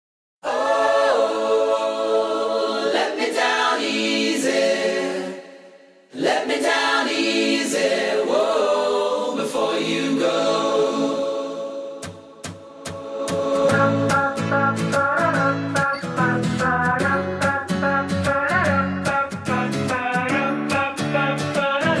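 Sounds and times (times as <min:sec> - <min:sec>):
layered vocal harmonies: 0:00.4 - 0:22.0.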